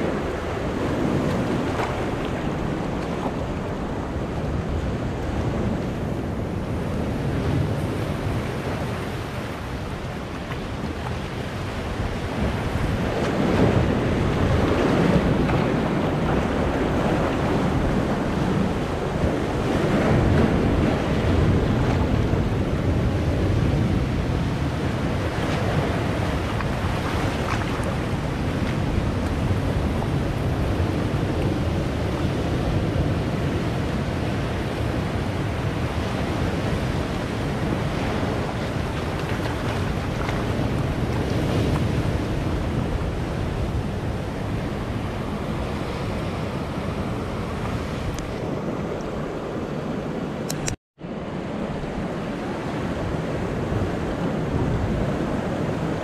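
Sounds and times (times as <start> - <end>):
surf washing among boulders: 0.0 - 56.0.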